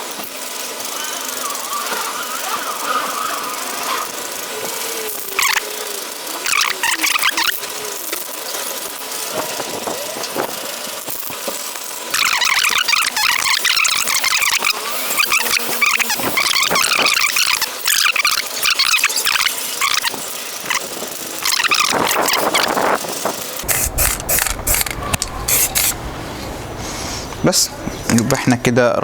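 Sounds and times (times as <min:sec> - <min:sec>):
spray paint can hissing: 0:00.0 - 0:26.0.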